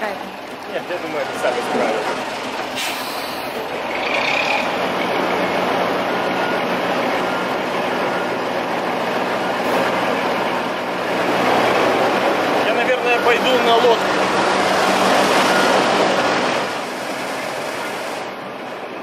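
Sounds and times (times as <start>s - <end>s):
crane diesel engine running: 0.0s - 19.0s.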